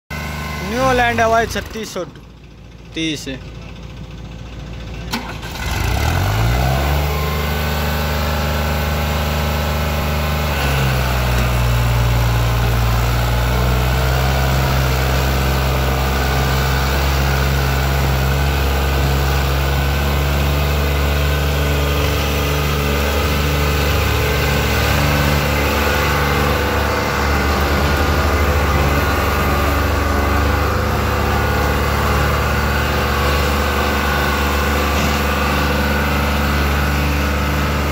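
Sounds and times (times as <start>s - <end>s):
tractor diesel engine under load: 0.1s - 37.9s.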